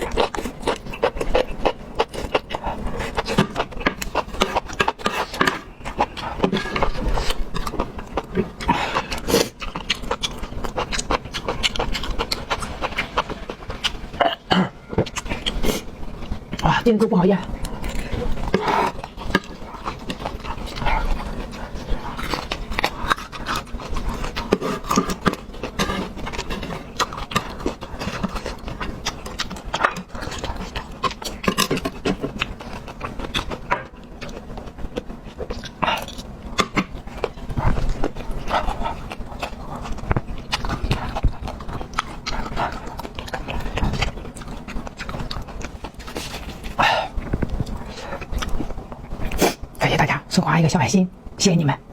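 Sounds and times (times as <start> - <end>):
person chewing: 0.0 - 49.8.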